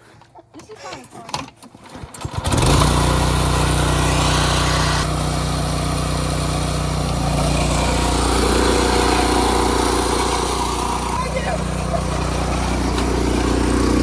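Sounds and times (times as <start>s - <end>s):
small engine running: 1.9s - 14.0s.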